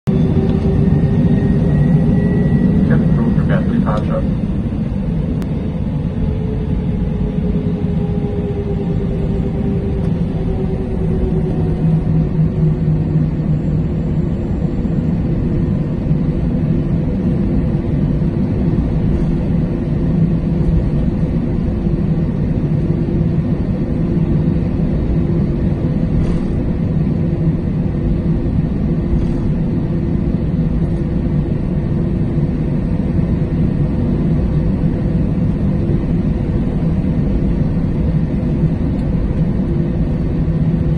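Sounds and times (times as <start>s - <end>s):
idling jet engines rumble: 0.0s - 40.9s.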